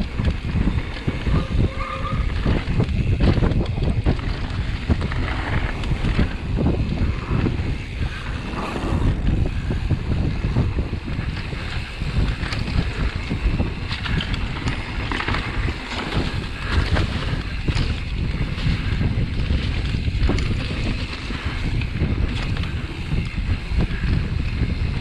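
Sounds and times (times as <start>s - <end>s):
low rumble: 0.0s - 24.8s
mountain bike riding on dirt trail: 0.0s - 25.0s
wind buffeting microphone: 0.0s - 25.0s.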